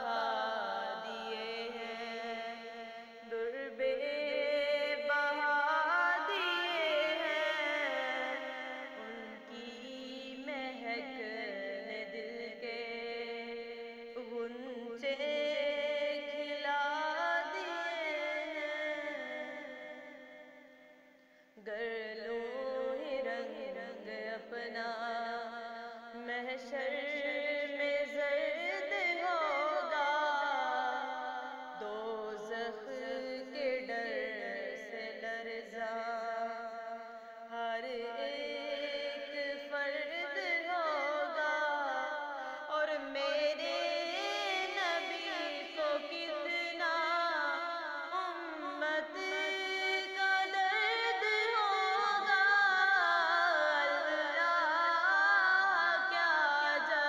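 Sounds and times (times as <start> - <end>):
devotional song with ornamented singing: 0.0 - 57.0.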